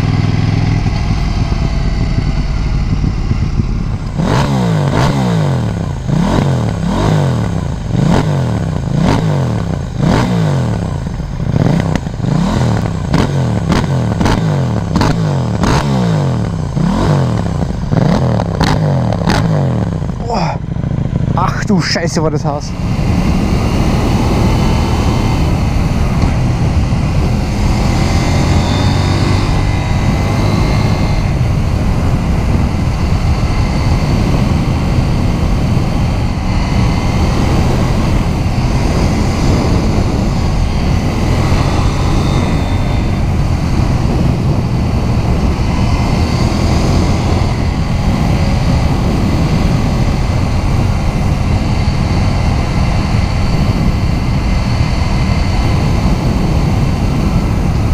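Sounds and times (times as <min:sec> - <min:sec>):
motorcycle engine pulling steadily: 0:00.0 - 0:57.9
wind rushing over microphone: 0:00.0 - 0:57.9.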